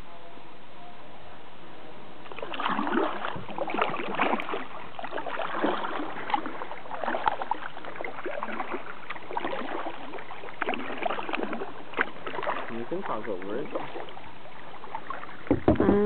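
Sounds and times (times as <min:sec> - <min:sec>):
paddle splashing water: 0:02.2 - 0:16.0.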